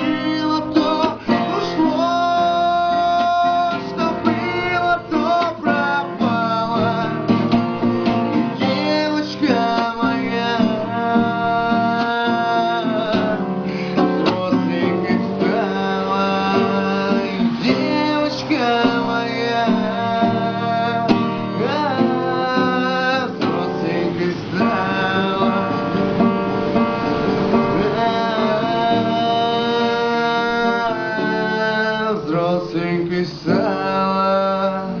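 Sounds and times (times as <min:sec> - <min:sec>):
man singing: 0:00.0 - 0:26.4, 0:27.5 - 0:35.0
acoustic guitar: 0:00.0 - 0:35.0.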